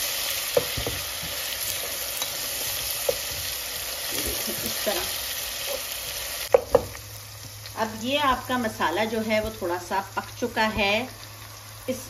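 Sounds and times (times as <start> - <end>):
oil sizzling in a pot: 0.0 - 12.0.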